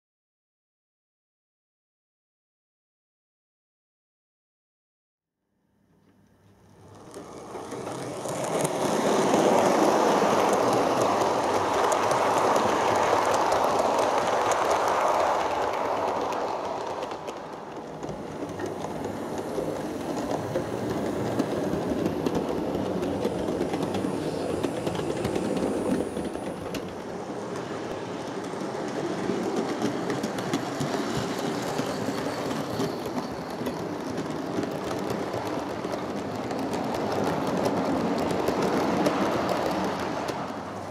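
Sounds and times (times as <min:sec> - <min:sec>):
wheels rattling over track: 0:06.8 - 0:40.9.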